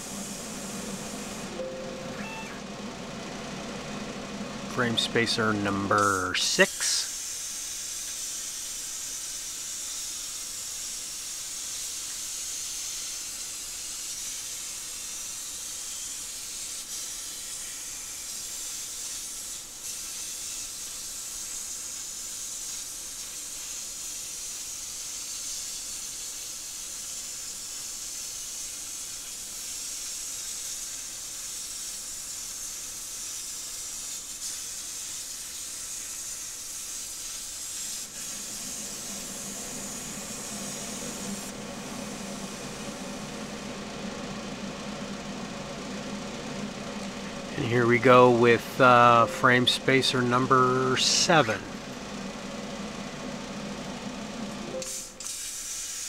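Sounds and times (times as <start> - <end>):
plasma cutting torch hissing: 0.0 - 1.6, 4.7 - 56.0.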